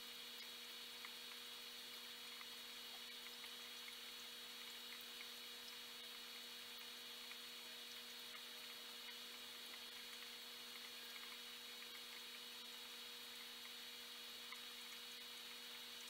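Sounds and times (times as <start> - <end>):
aquarium air pump hum: 0.0 - 16.0.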